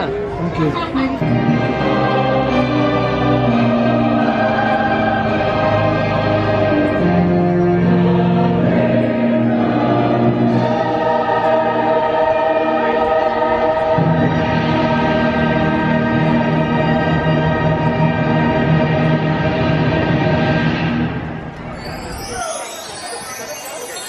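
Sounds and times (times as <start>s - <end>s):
orchestral music: 0.0s - 24.0s
choir singing sustained notes: 1.2s - 21.4s.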